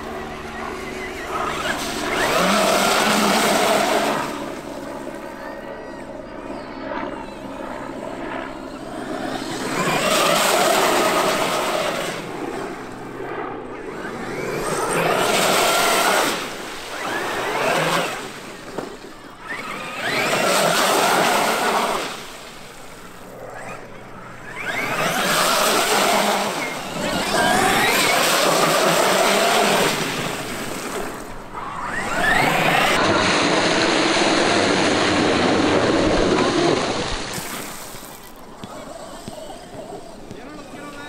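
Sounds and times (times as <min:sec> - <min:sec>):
electric motor whining: 0:00.0 - 0:41.0.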